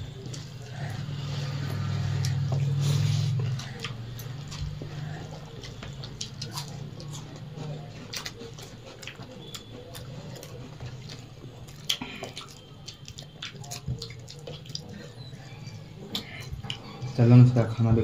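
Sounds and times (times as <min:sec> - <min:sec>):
fingers mixing food clicks: 0:00.0 - 0:17.3
mouths chewing: 0:00.0 - 0:17.6
low steady hum: 0:00.0 - 0:18.0.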